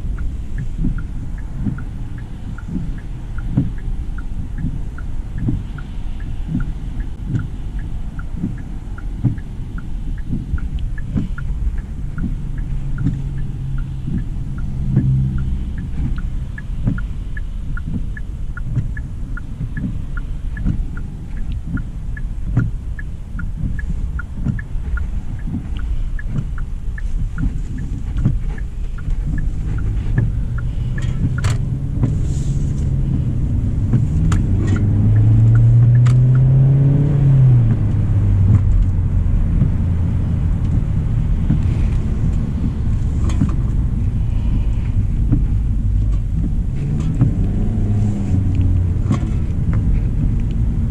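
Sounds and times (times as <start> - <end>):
road and engine rumble: 0.0 - 50.9
turn signal clicking: 0.0 - 50.9.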